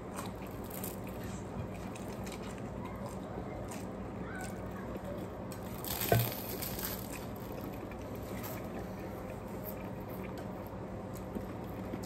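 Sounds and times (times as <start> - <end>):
person chewing: 0.0 - 12.0
steady low hum: 0.0 - 12.0.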